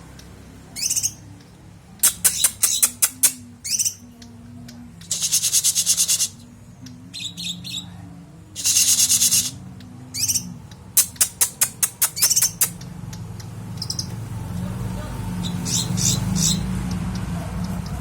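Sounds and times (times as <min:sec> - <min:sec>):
songbird trilling and chirping: 0:00.1 - 0:08.0, 0:08.6 - 0:14.4, 0:15.3 - 0:18.0.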